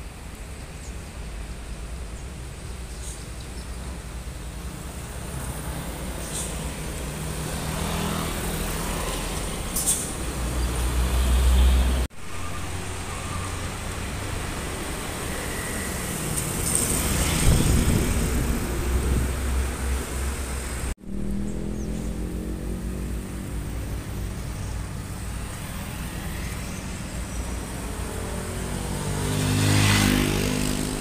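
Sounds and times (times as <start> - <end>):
trucks driving past: 1.4 - 31.0.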